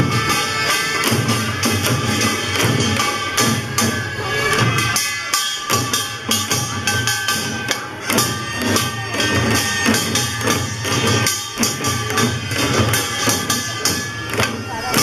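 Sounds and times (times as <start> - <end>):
handheld drums beaten fast: 0.0 - 15.0.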